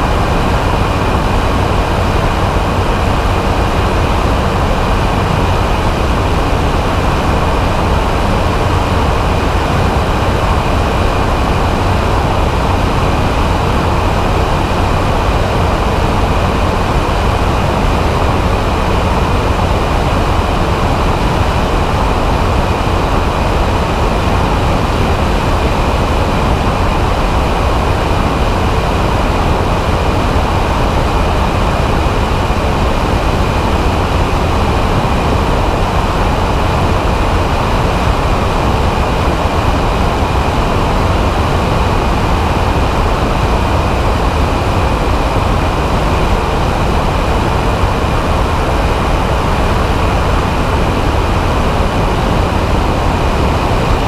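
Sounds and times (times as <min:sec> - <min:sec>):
aircraft engine and propeller: 0:00.0 - 0:54.0
wind rushing on microphone: 0:00.0 - 0:54.0.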